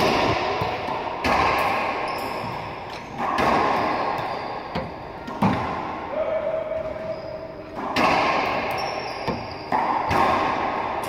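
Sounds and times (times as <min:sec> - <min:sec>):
racquetball hits echoing: 0:00.0 - 0:11.0.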